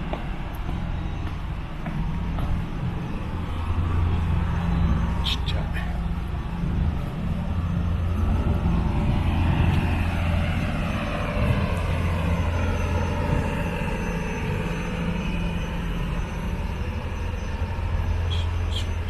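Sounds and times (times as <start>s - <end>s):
ferry engine droning: 0.0s - 19.0s.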